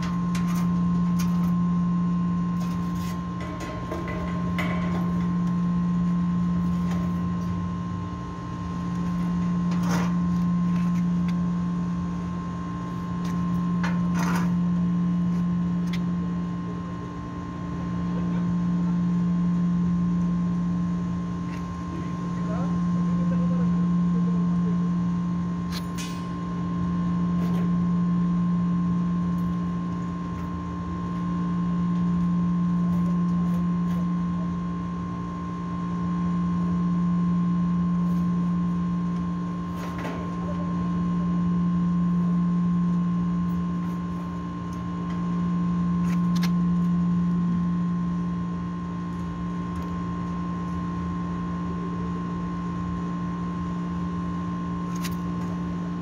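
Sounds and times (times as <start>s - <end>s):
air conditioner electrical hum: 0.0s - 56.0s.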